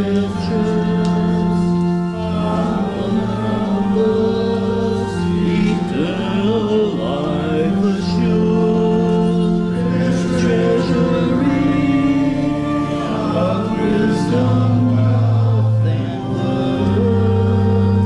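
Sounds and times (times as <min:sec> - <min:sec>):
congregation singing a hymn: 0:00.0 - 0:18.0.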